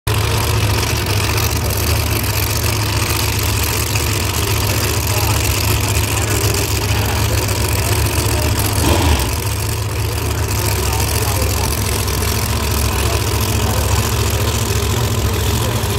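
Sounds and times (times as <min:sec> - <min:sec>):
race car engines idling: 0:00.1 - 0:15.9.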